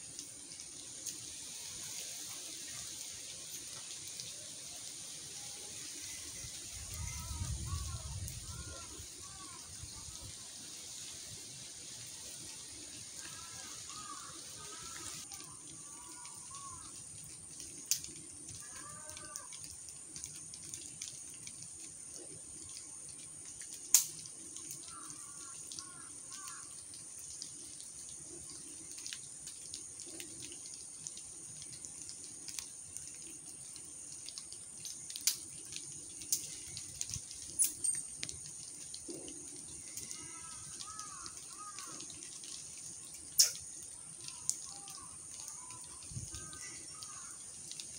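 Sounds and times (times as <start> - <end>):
rainwater dripping from trees: 0.0 - 47.9
steady high hiss: 0.0 - 47.9.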